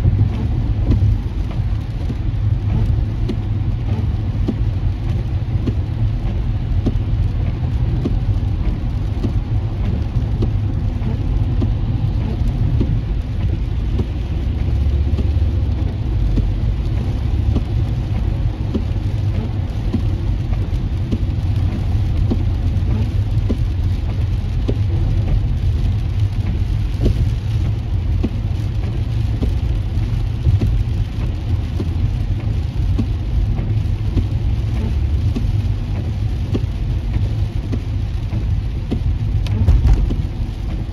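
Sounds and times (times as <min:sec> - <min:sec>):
rain hitting windshield: 0:00.0 - 0:40.9
road rumble: 0:00.0 - 0:40.9.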